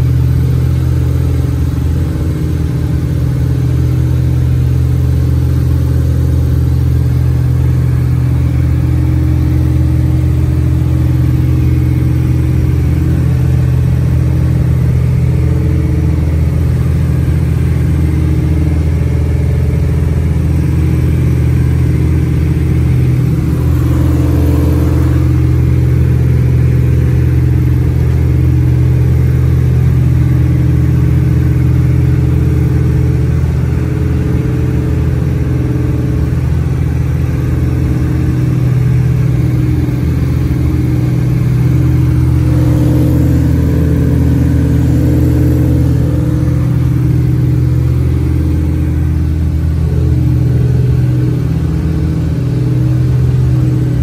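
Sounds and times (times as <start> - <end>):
aircraft engines droning in cockpit: 0.0 - 54.0.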